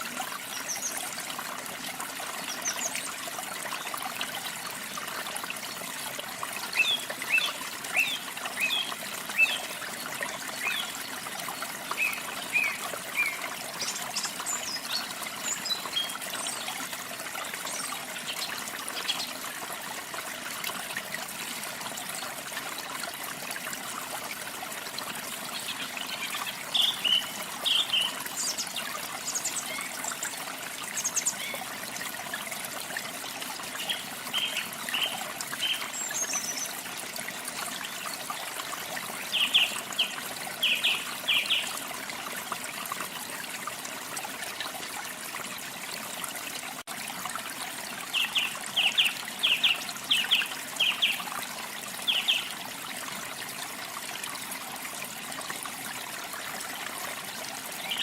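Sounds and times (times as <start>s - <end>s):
waterfall trickling and splashing: 0.0s - 58.0s.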